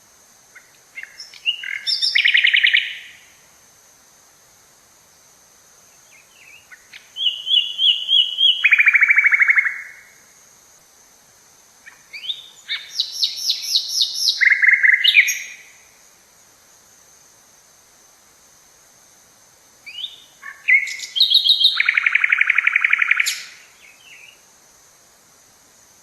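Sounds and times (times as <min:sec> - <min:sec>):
songbirds chirping: 0:00.4 - 0:17.5, 0:18.1 - 0:24.5.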